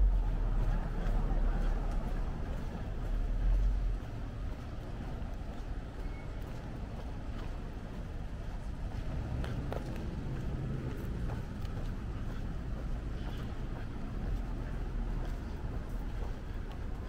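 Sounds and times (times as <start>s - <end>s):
cars passing: 0.0s - 17.0s
road traffic hum: 0.0s - 17.0s.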